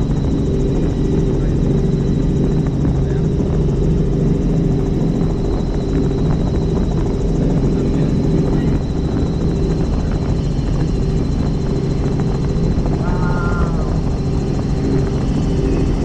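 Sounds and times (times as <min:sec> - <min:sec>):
helicopter drone: 0:00.0 - 0:16.0
high whine: 0:00.0 - 0:16.0.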